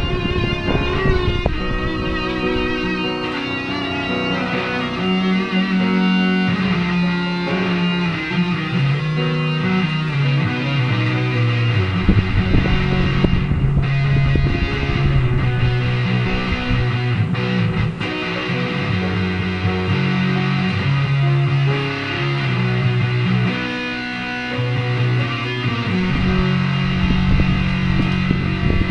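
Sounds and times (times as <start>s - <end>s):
electric guitar melody: 0.0s - 28.9s
low guitar chords: 0.0s - 28.9s.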